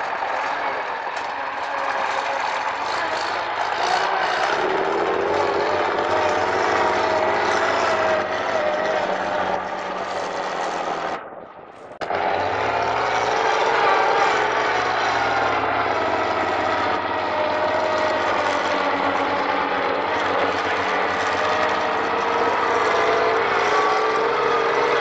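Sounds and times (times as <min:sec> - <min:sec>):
truck engine under load: 0:00.0 - 0:25.0.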